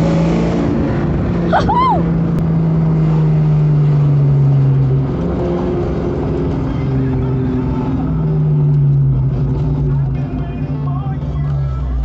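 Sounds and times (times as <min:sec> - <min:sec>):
car engine and exhaust droning: 0:00.0 - 0:12.0.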